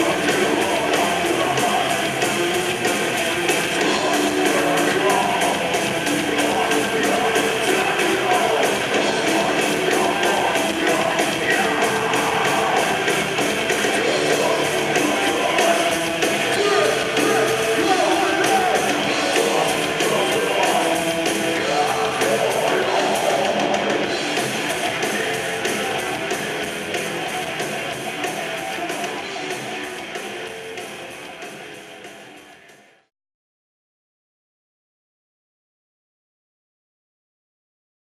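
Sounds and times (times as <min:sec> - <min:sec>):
pounding drums: 0:00.0 - 0:32.6
distorted electric guitars: 0:00.0 - 0:33.0
vocals: 0:00.0 - 0:33.1.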